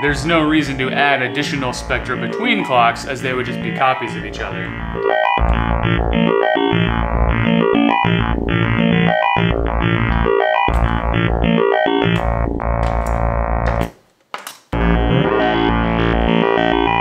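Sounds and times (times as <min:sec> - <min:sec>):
bright stepped synth tones: 0:00.0 - 0:13.9, 0:14.8 - 0:17.0
deep low synth tone: 0:01.6 - 0:13.8, 0:14.8 - 0:17.0.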